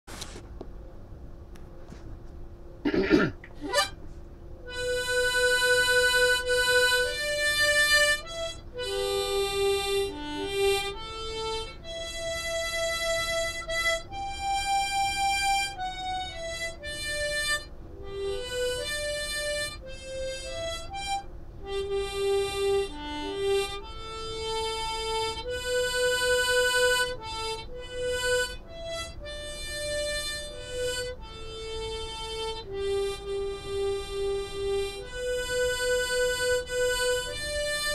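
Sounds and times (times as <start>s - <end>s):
steady hum: 0.1s - 37.9s
harmonica playing slow tune: 2.9s - 4.0s, 4.6s - 37.9s.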